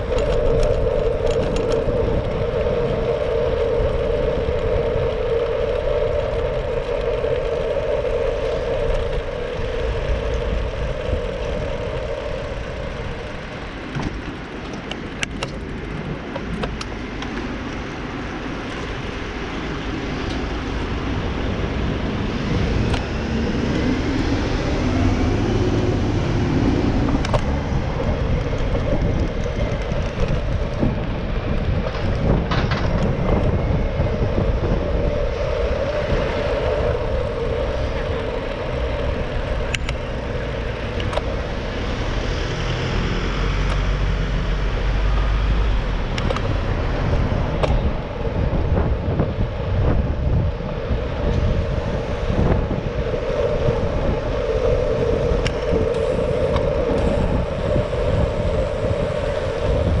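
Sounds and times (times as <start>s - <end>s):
bike clicks and rattles: 0.0s - 24.7s, 25.7s - 60.0s
bicycle tyre rumble: 0.0s - 60.0s
bus engine running: 0.0s - 60.0s
deep rumble: 0.0s - 60.0s
wind noise on microphone: 0.0s - 60.0s.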